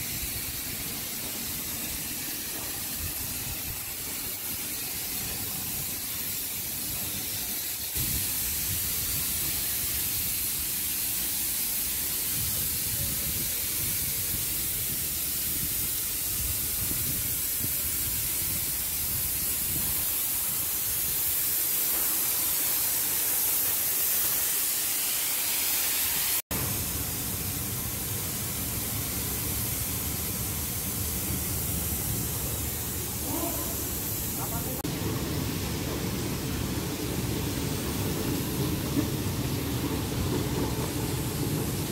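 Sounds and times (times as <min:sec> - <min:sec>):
spray painting hiss: 0:00.0 - 0:41.9.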